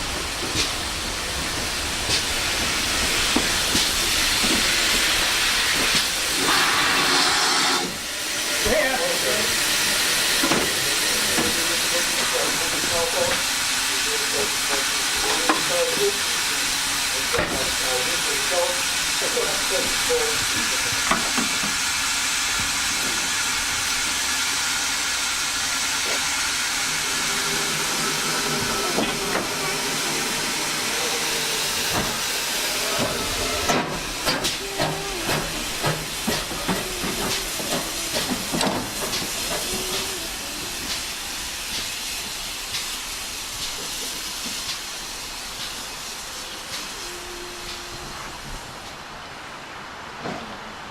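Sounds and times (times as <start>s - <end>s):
train clanks and knocks: 0.0s - 6.8s, 8.4s - 24.4s, 26.9s - 49.0s, 50.1s - 50.9s
steam locomotive hissing: 0.0s - 50.1s.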